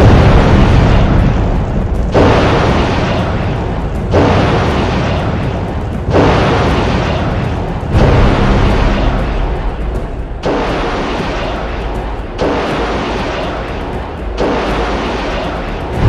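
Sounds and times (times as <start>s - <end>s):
loud blasts: 0.0s - 16.0s.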